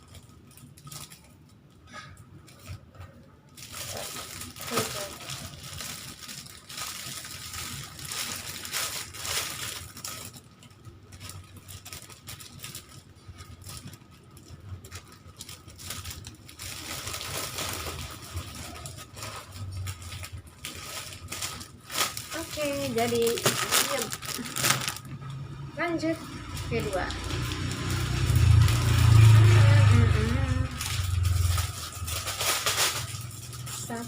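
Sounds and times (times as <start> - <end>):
plastic packaging crinkling: 0.0 - 34.0.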